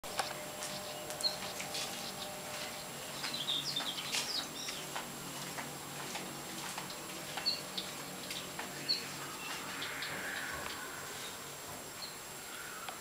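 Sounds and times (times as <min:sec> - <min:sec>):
small birds chirping: 0:00.0 - 0:13.0
steady hiss: 0:00.1 - 0:13.0.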